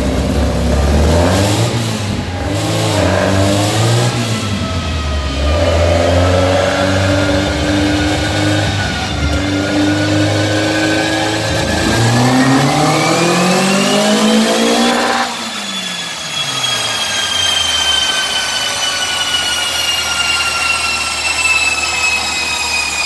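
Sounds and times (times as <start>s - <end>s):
car engine revving: 0.0s - 22.7s.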